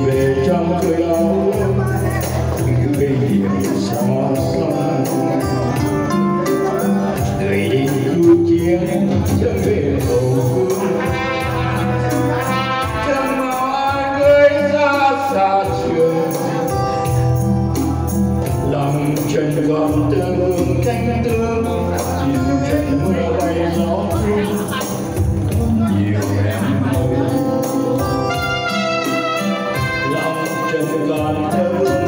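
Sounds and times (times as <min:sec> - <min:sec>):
acoustic guitar: 0:00.0 - 0:32.0
man singing into a microphone: 0:00.0 - 0:32.0.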